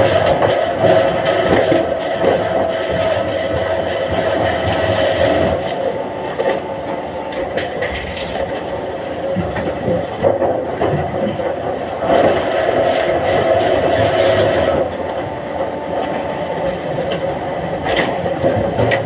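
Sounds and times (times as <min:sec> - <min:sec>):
mill machinery droning: 0:00.0 - 0:19.0.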